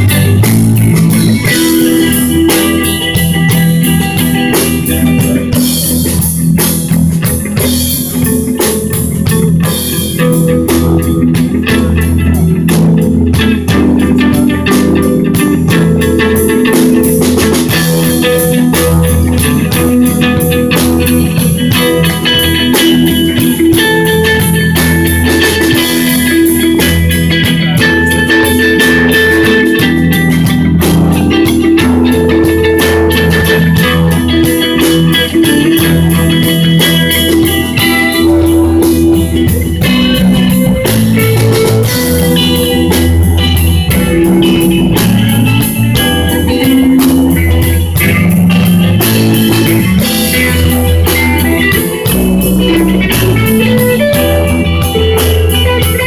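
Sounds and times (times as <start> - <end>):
bass line: 0.0 - 56.0
drumming: 0.0 - 56.0
sustained electric guitar notes: 0.0 - 56.0.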